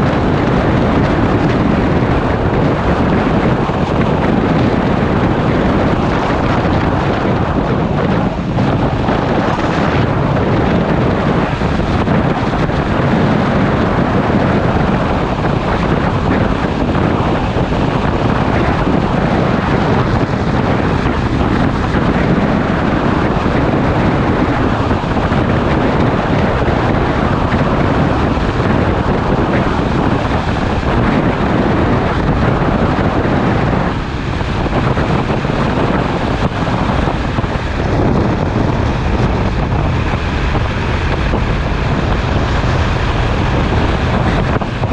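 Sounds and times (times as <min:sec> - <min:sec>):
wind roaring over microphone: 0:00.0 - 0:44.9.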